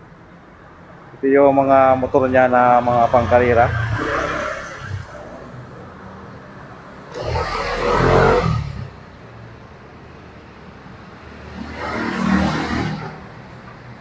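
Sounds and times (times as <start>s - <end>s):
low traffic rumble: 0.0s - 14.0s
vehicle passing: 1.2s - 9.5s, 10.8s - 14.0s.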